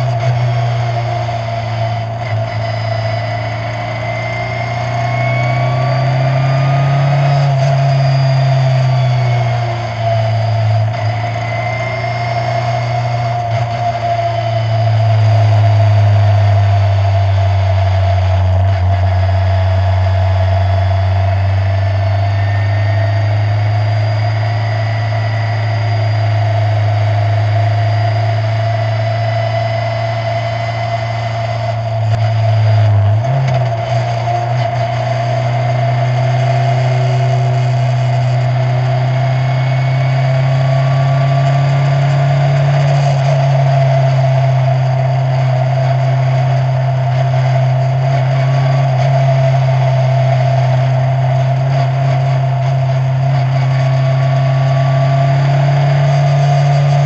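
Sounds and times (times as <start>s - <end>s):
racing car engine drone: 0.0s - 57.0s.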